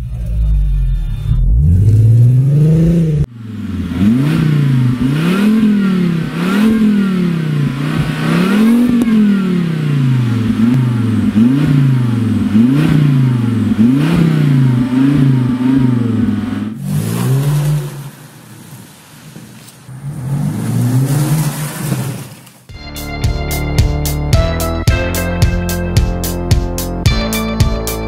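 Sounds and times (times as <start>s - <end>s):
car engines revving: 0.0s - 22.7s.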